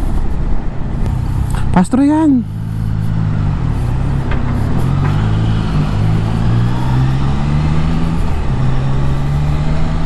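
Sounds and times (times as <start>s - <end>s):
wind and road noise: 0.0s - 10.0s
motorcycle engine running: 1.0s - 1.8s, 2.4s - 10.0s.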